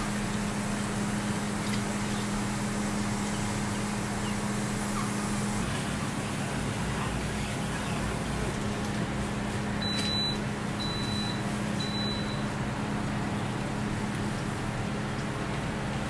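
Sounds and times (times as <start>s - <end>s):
kitchen fans humming: 0.0s - 16.0s.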